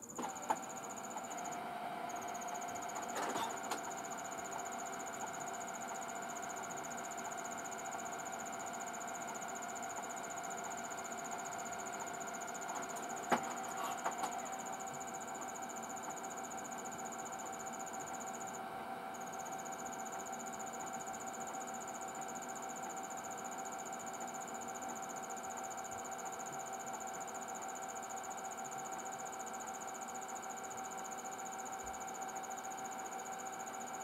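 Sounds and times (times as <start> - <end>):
steady mid-pitched hum: 0.0 - 34.0.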